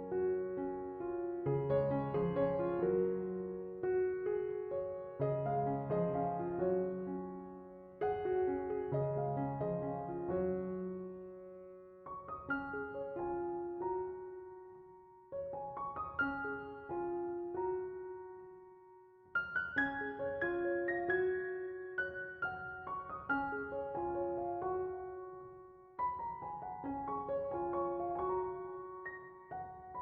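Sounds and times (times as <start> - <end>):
soft solo piano: 0.0 - 30.0.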